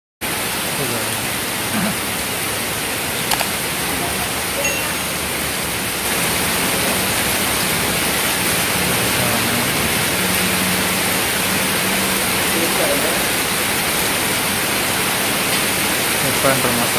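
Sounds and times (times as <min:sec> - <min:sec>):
heavy rain pouring: 0:00.2 - 0:16.9.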